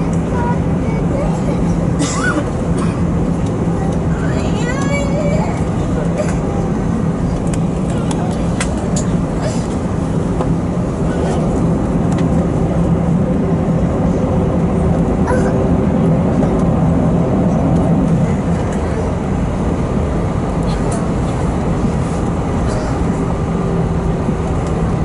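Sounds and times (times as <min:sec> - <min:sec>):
jet cabin drone: 0:00.0 - 0:25.0.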